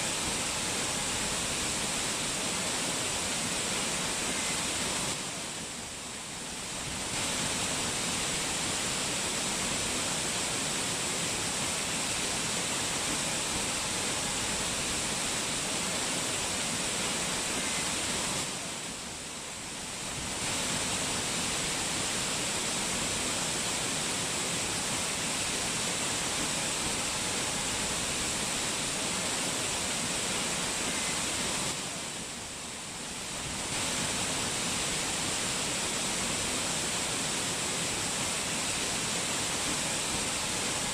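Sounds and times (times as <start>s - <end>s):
rushing mountain water: 0.0s - 40.9s.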